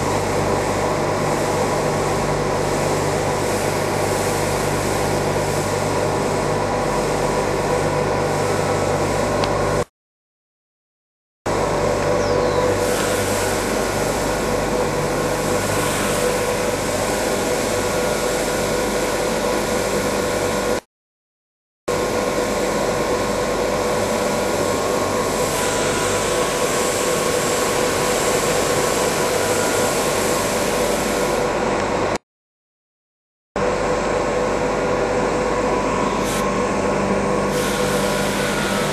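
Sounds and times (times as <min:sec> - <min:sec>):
packing machine drone and hum: 0:00.0 - 0:09.9, 0:11.5 - 0:20.9, 0:21.9 - 0:32.2, 0:33.6 - 0:38.9.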